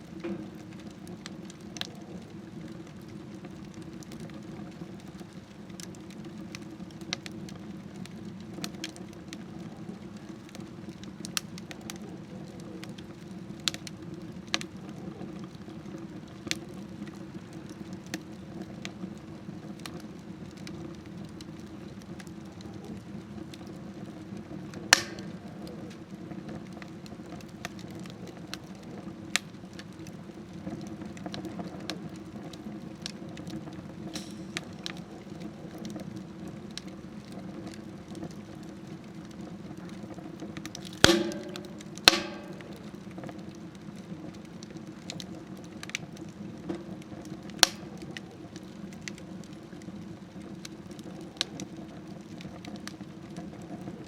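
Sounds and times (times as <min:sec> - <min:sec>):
wood stove fire crackling: 0:00.0 - 0:54.0.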